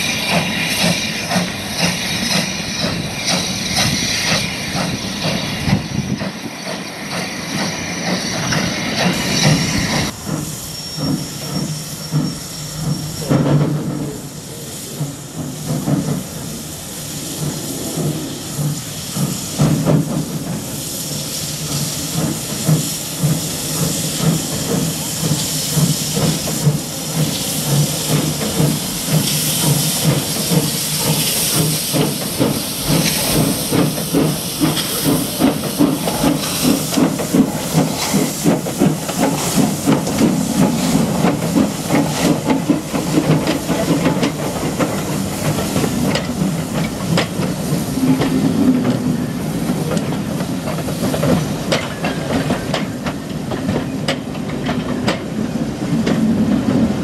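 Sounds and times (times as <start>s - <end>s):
steam hissing: 0.0s - 57.0s
steam locomotive chuffing: 0.0s - 57.0s.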